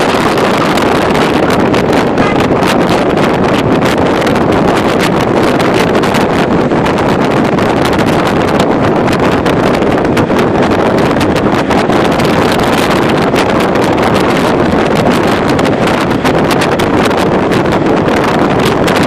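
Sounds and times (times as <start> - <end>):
moving vehicle running noise: 0.0 - 19.0
wind rushing over microphone: 0.0 - 19.0.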